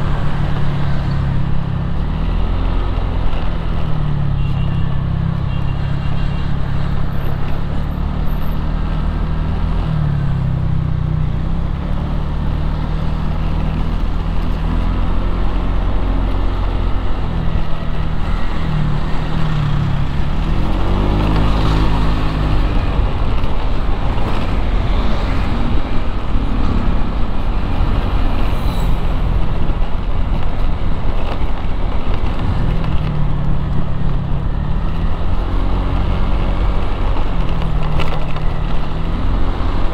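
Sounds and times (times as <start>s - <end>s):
engine hum: 0.0s - 39.9s
road rumble: 0.0s - 39.9s.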